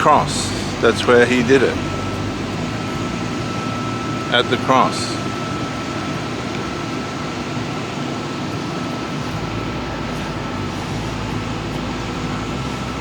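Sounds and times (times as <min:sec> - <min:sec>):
deep rumble: 0:00.0 - 0:07.8, 0:08.4 - 0:13.0
faint high whine: 0:00.0 - 0:13.0
mechanical hum and hiss: 0:00.0 - 0:13.0.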